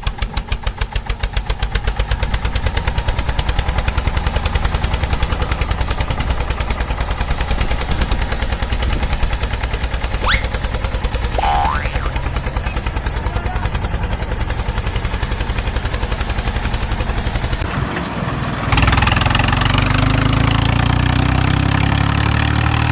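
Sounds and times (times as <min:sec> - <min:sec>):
engine chugging: 0:00.0 - 0:17.7, 0:18.6 - 0:22.9
steady engine running: 0:00.0 - 0:17.7, 0:18.7 - 0:22.9.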